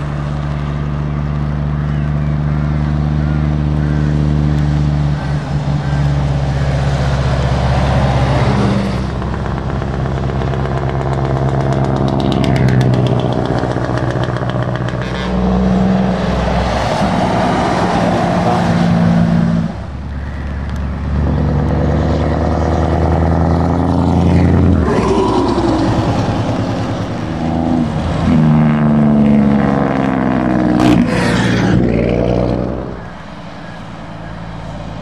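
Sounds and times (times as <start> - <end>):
diesel truck engines: 0.0 - 35.0.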